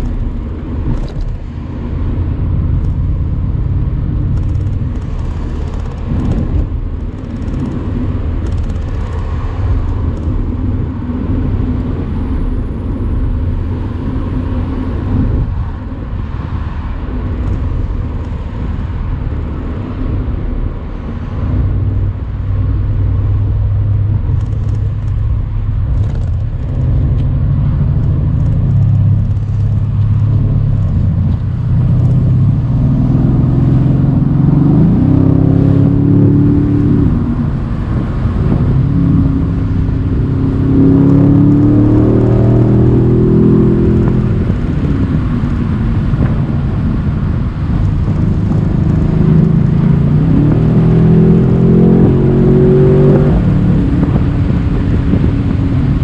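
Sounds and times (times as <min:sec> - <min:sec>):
car engine running on the move: 0:00.0 - 0:56.0.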